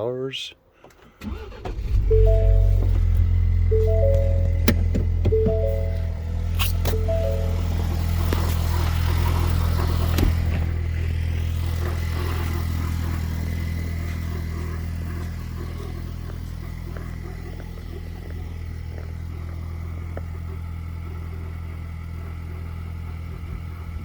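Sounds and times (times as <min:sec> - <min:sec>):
car engine running: 0:01.2 - 0:24.0
engine grinding noise: 0:01.2 - 0:24.0.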